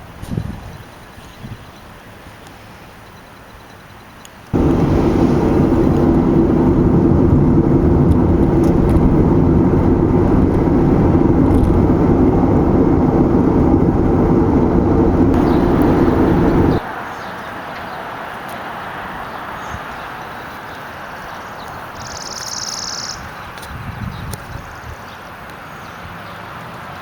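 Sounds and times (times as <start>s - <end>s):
vehicle and road rumble: 0.0s - 27.0s.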